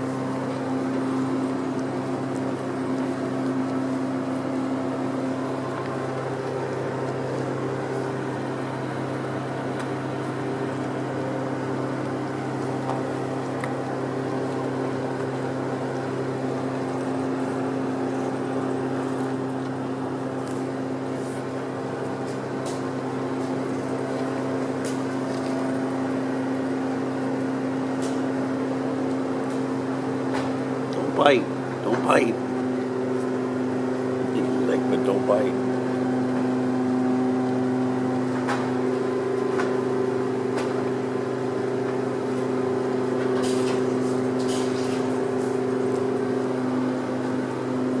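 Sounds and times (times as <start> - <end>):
steady mechanical drone: 0.0 - 48.0.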